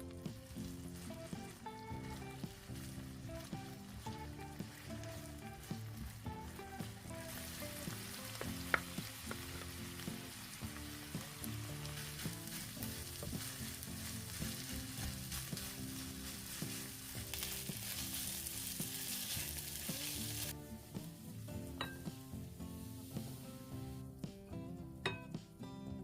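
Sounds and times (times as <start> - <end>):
food sizzling in a pan: 0.0 - 24.2
background music: 0.0 - 26.0.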